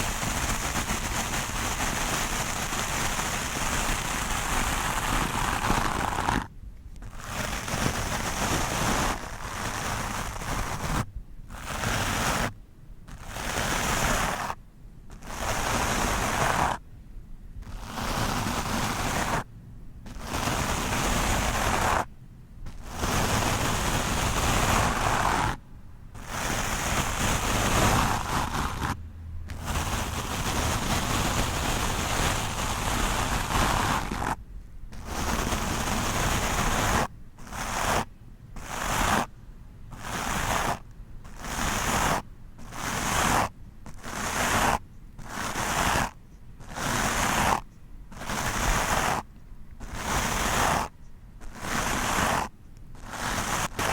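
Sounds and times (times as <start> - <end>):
brush scrubbing over microphone: 0.0 - 14.6, 15.2 - 16.8, 17.6 - 19.5, 20.1 - 22.1, 22.7 - 25.6, 26.2 - 39.3, 39.9 - 53.9.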